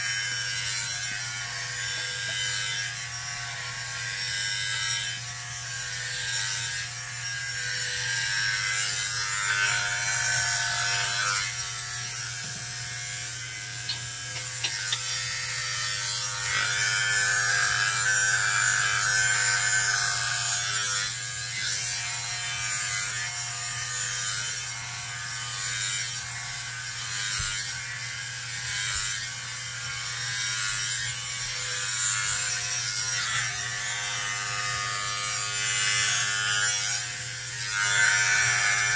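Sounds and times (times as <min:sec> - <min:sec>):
electric hair clippers buzzing: 0:00.0 - 0:38.9.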